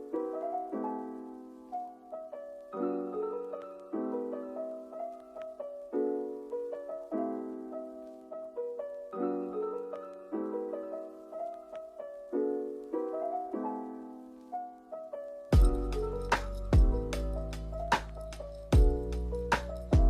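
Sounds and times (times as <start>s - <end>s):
soft solo piano: 0.0s - 20.0s.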